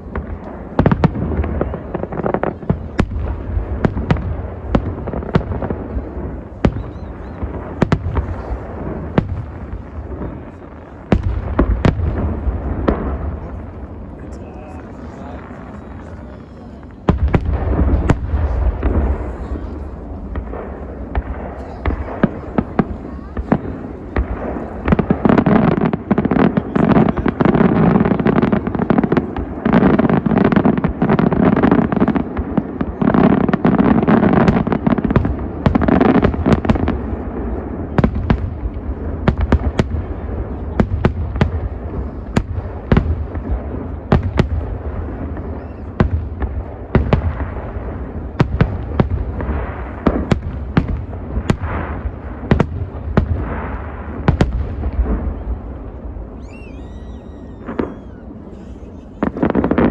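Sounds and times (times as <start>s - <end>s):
sharp fireworks bangs: 0.0s - 59.9s.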